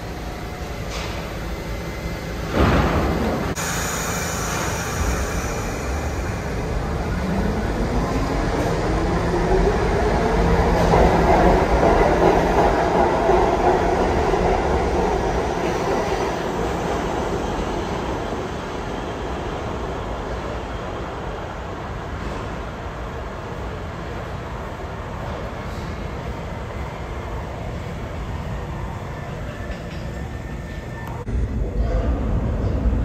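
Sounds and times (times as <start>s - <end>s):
subway train motor whine: 0.0s - 33.0s.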